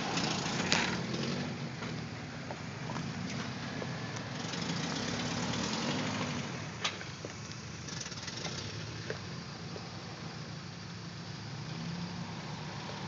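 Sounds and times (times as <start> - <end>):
engine running at low revs: 0.0 - 13.0
steady hiss: 0.0 - 13.0.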